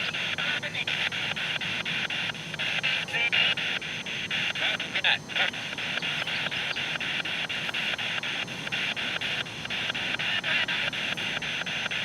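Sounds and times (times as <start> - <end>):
chopped radio static bursts: 0.0 - 12.0.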